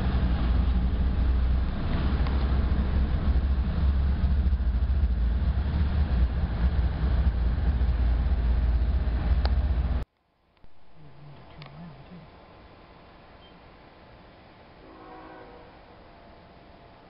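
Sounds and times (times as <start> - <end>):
freight train rumbling by: 0.0 - 10.0, 10.9 - 17.0.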